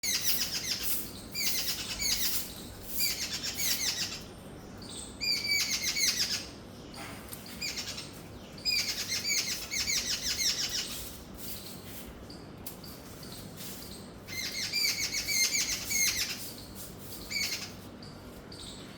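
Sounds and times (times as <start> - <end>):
bird harsh chattering calls: 0.0 - 4.3, 4.9 - 6.6, 7.6 - 11.8, 13.2 - 18.9.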